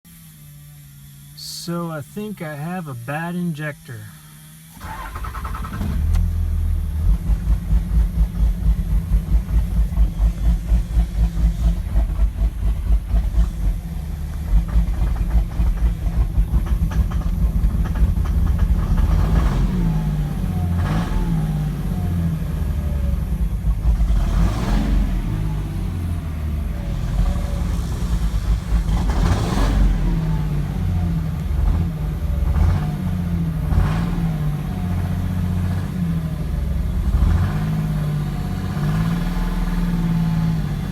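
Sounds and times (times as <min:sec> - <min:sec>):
diesel engine starting and idling: 0:01.0 - 0:40.9.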